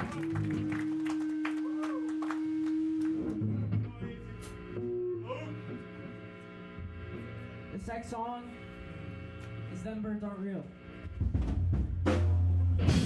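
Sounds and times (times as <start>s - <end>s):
amplifier hum: 0.0s - 11.9s
loud steady electronic tone: 0.3s - 11.3s.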